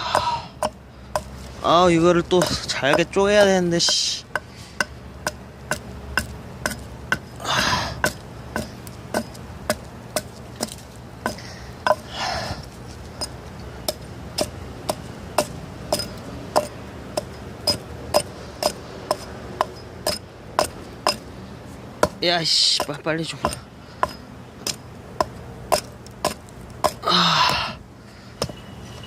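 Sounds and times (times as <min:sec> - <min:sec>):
hatchet chopping wood: 0:00.0 - 0:01.4, 0:02.3 - 0:12.1, 0:13.2 - 0:21.3, 0:22.0 - 0:27.8.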